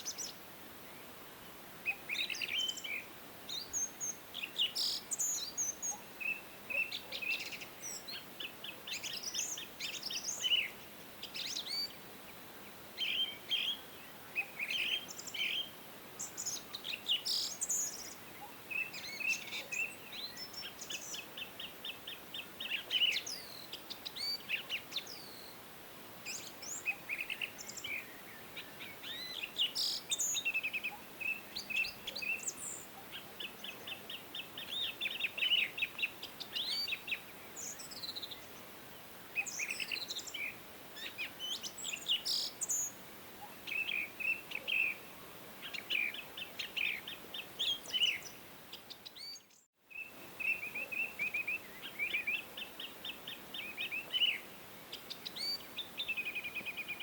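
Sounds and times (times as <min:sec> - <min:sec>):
faint background hiss: 0:00.0 - 0:57.0
songbirds singing and chirping: 0:00.0 - 0:57.0.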